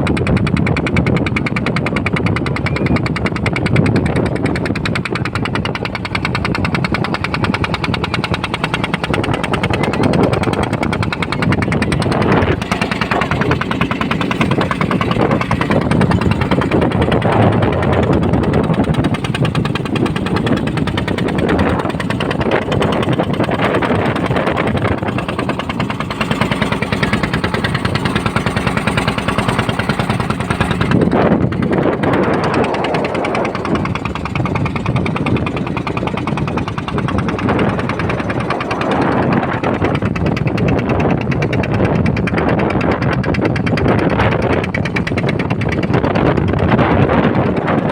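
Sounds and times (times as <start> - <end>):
boat engine chugging: 0.0 - 47.9.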